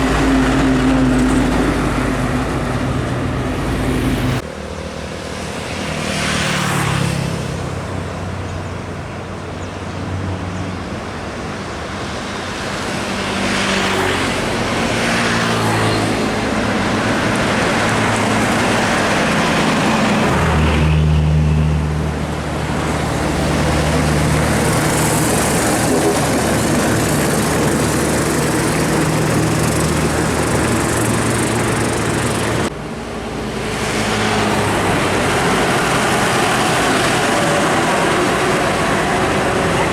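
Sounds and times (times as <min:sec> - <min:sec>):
heavy trucks passing: 0:00.0 - 0:39.9
road and tyre rush: 0:00.0 - 0:39.9.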